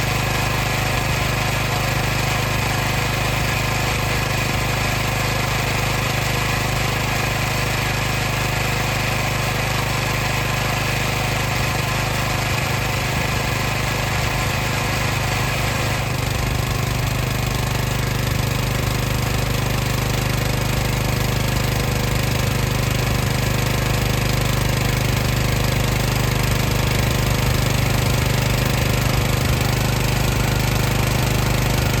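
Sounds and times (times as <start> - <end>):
water pump humming: 0.0 - 32.0.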